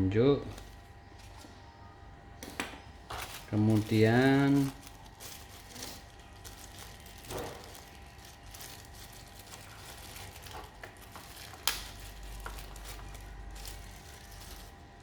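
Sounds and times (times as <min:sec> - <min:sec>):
packaging rustling: 0:00.5 - 0:01.6, 0:03.0 - 0:15.0.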